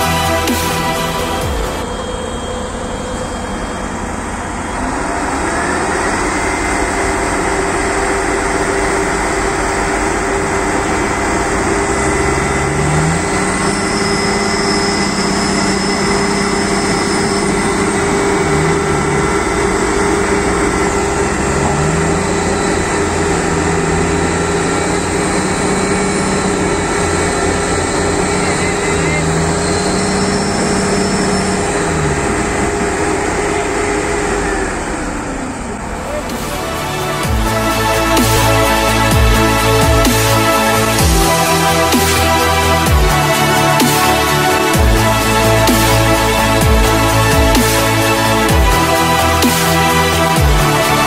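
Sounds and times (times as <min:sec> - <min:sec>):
heavy diesel engines revving: 0:00.0 - 0:51.0.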